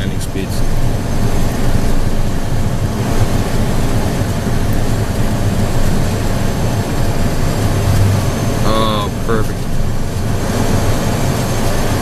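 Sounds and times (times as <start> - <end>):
jet engines humming: 0.0 - 12.0
rushing airflow: 0.0 - 12.0.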